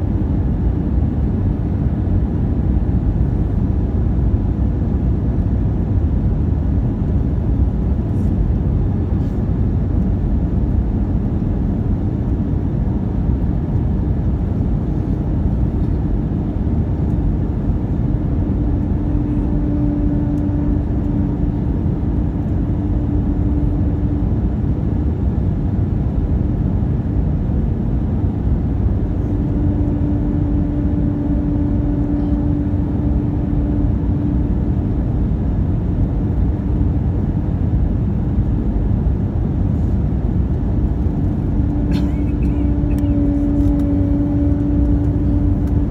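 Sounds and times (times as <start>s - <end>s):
airflow and engine rumble: 0.0s - 45.9s
steady hum: 0.0s - 45.9s.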